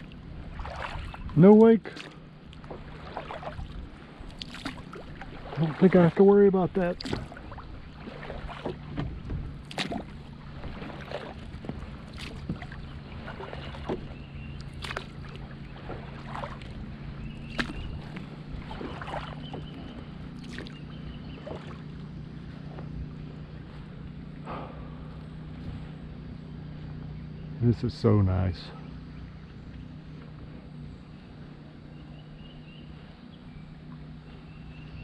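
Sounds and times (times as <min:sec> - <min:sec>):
paddle splashes and drips: 0:00.0 - 0:35.0
steady low hum: 0:00.0 - 0:35.0.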